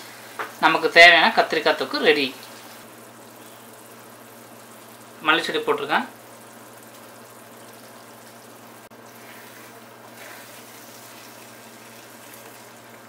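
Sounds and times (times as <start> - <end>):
gravy bubbling and simmering: 0.0 - 13.0.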